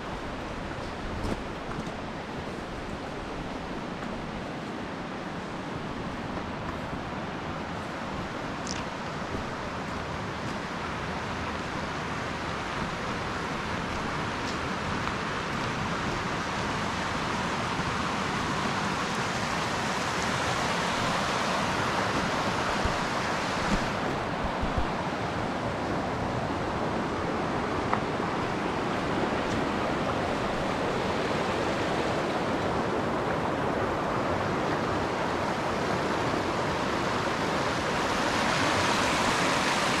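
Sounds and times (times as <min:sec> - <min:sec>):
stream rushing over stones: 0:00.0 - 0:40.0.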